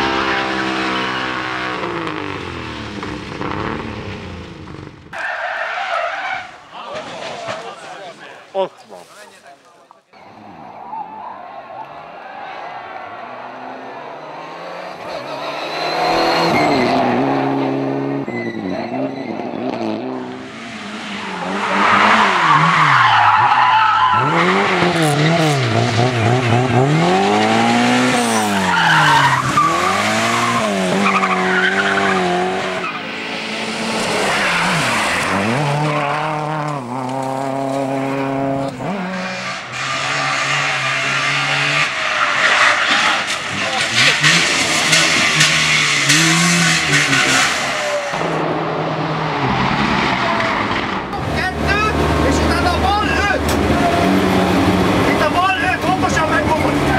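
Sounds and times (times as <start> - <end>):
car engine revving hard: 0.0 - 4.9, 13.2 - 56.9
tyres skidding: 0.0 - 56.9.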